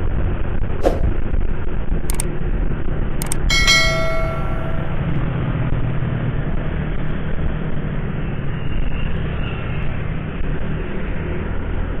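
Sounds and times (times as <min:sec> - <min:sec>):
motorcycle engine and road noise: 0:00.8 - 0:12.0.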